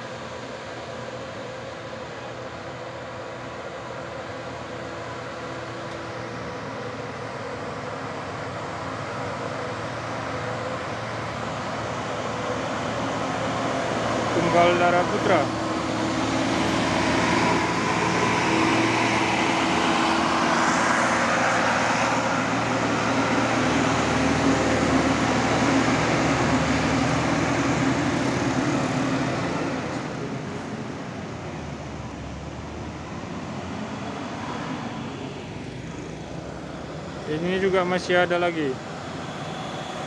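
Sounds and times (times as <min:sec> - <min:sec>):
coach diesel engine pulling uphill: 0:00.0 - 0:40.0
tyre and road noise: 0:03.0 - 0:40.0.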